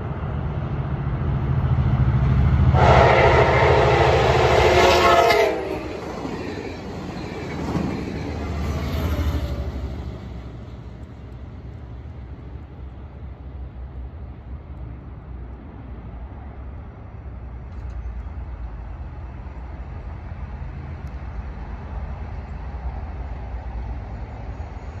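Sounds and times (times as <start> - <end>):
passenger train rumbling: 0.0 - 25.0.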